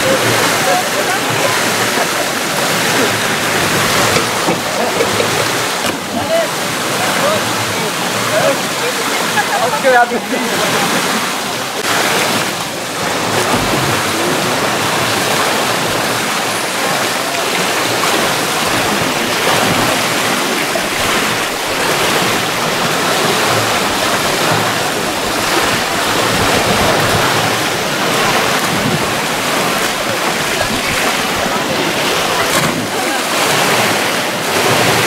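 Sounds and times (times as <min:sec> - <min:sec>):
water splashing from swimmers: 0:00.0 - 0:35.0.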